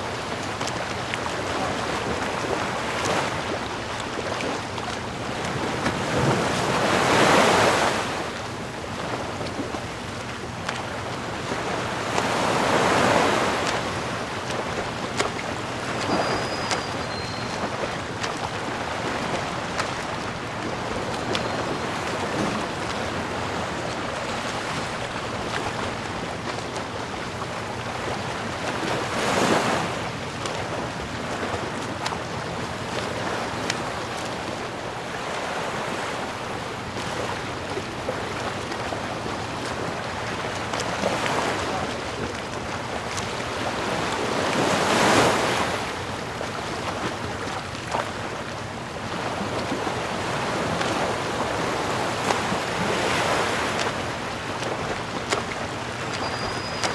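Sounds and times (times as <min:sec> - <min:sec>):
sea waves breaking: 0:00.0 - 0:56.9.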